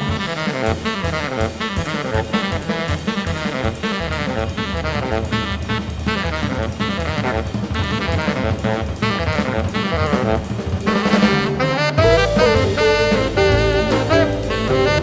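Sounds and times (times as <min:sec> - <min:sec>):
bass: 0:00.0 - 0:15.0
drum kit with cymbals: 0:00.0 - 0:15.0
saxophone playing fast lines: 0:00.0 - 0:15.0.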